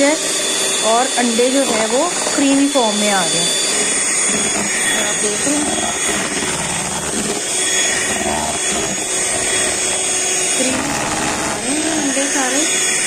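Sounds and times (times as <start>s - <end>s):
electric mixer whirring: 0.0s - 13.0s.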